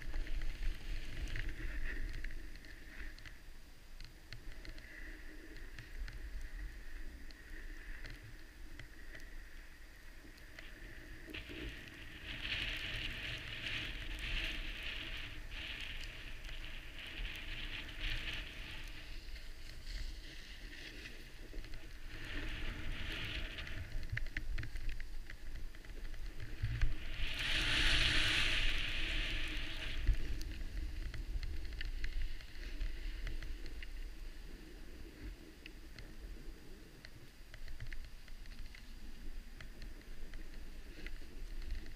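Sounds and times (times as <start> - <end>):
skis scraping on snow: 0.0 - 3.5, 4.5 - 37.3
wind rumble on microphone: 0.0 - 41.9.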